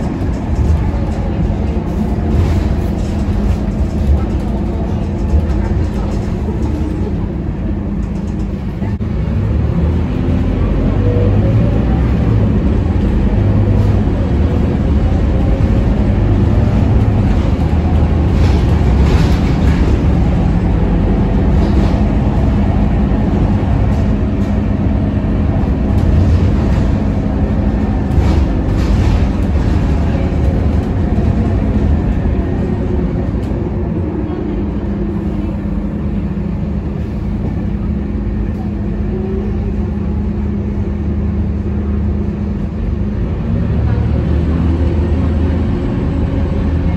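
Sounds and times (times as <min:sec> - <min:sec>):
bus diesel engine drone: 0:00.0 - 0:46.9
road rumble: 0:00.0 - 0:46.9.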